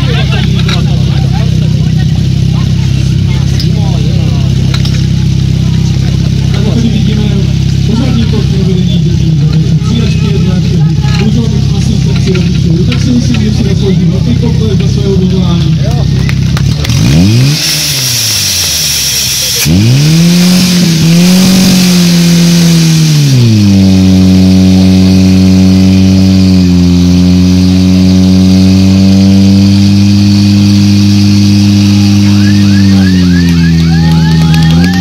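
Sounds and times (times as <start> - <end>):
pump engine revving: 0.0 - 35.0.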